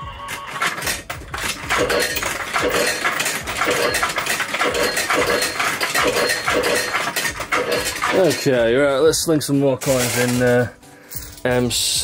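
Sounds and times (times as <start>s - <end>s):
coins clinking: 0.0s - 8.8s, 9.5s - 11.7s.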